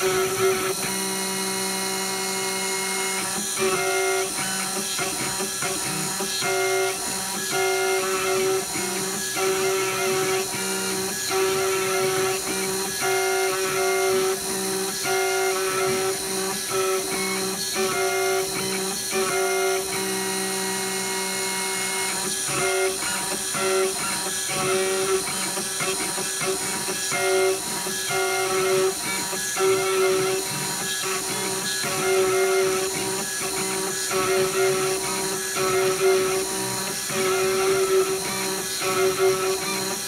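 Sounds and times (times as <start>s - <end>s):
spindle whine: 0.0s - 40.0s.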